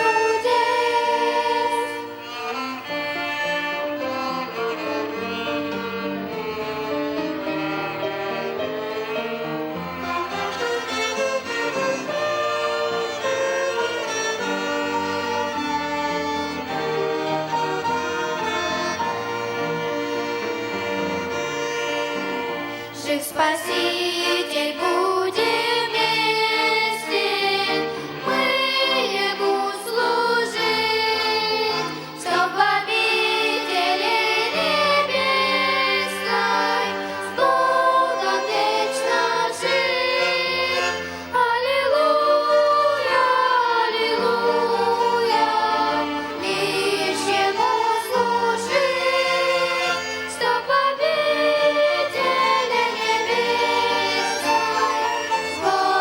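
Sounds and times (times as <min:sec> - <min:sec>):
choir singing a hymn: 0:00.0 - 0:56.0
violin ensemble: 0:00.0 - 0:56.0.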